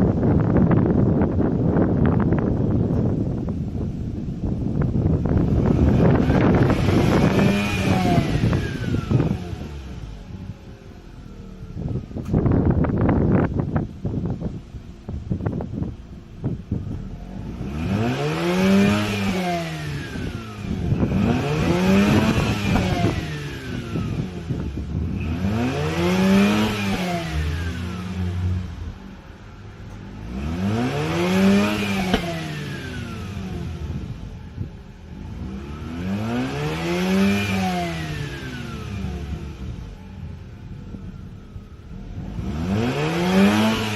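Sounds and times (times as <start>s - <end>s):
rotary engine revving: 0.0s - 43.9s.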